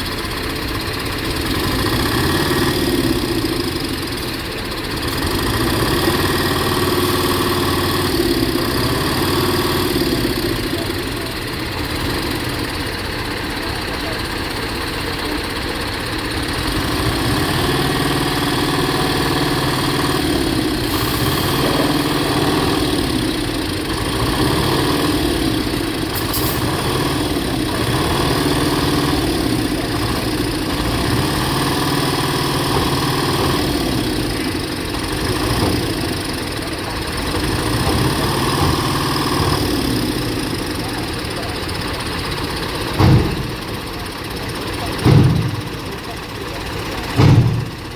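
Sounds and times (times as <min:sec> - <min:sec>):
large vehicle engine idling: 0:00.0 - 0:47.9.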